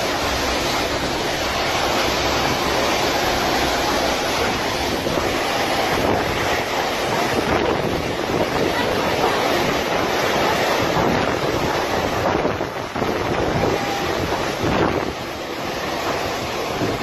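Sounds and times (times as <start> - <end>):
heavy rain: 0.0 - 17.0
strong wind: 0.0 - 17.0
wind buffeting microphone: 0.0 - 17.0.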